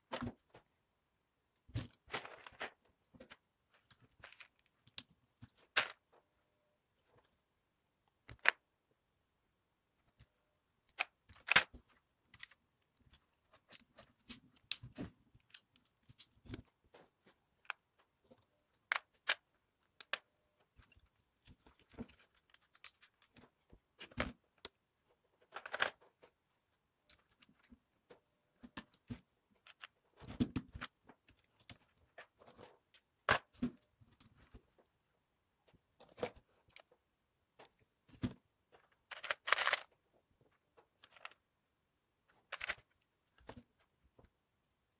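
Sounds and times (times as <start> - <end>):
plastic parts clicking and rattling: 1.7 - 6.3, 8.1 - 8.6, 10.0 - 35.0, 35.6 - 41.5, 42.3 - 44.3.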